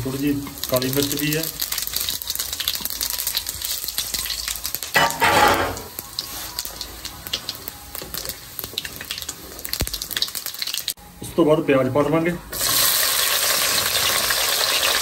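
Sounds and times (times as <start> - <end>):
spices sizzling in hot oil: 0.0 - 11.0, 12.5 - 15.0.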